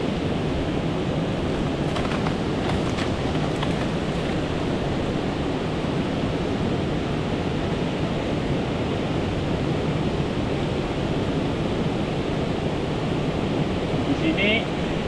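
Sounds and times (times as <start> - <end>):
outdoor ambience rushing noise: 0.0 - 15.0.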